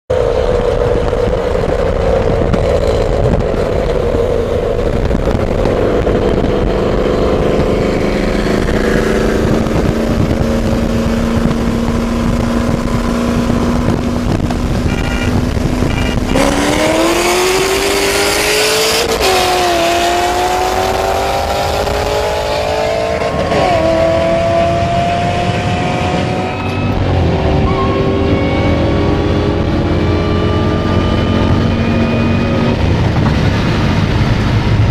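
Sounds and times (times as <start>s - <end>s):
car engine accelerating: 0.1s - 34.9s.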